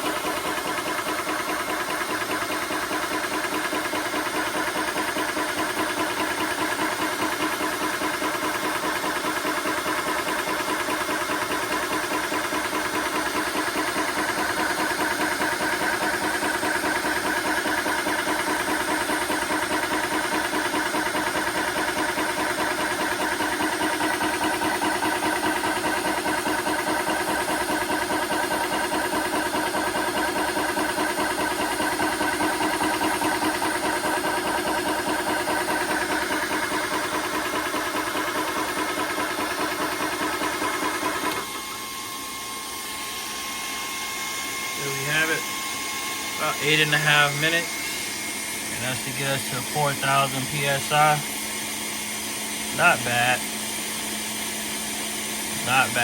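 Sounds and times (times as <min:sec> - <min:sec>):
air compressor pulsing: 0:00.0 - 0:56.0.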